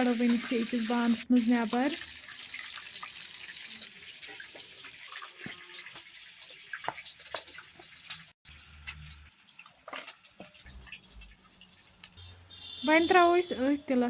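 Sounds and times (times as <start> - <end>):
hot oil sizzling: 0.0 - 12.8.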